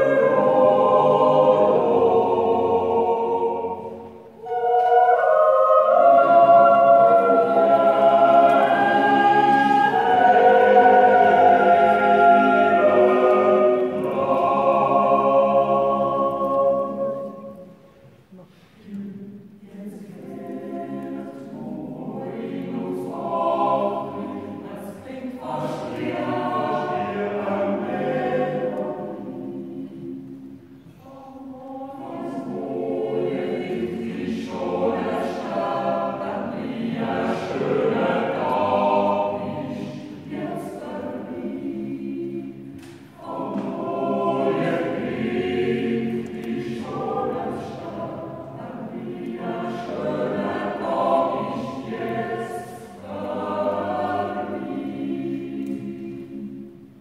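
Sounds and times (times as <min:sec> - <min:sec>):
choir yodeling a cappella: 0:00.0 - 0:57.0.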